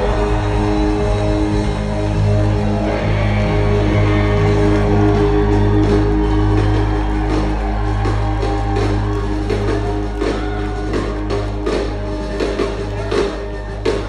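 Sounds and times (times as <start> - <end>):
live band playing amplified music: 0.0 - 14.0.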